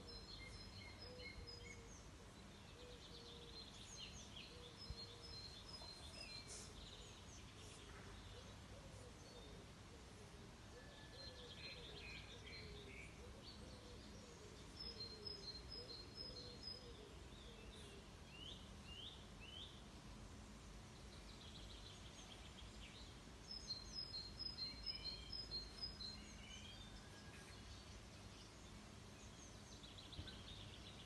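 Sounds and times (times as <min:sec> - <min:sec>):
faint songbird calls: 0:00.0 - 0:31.0
low outdoor background noise: 0:00.0 - 0:31.0.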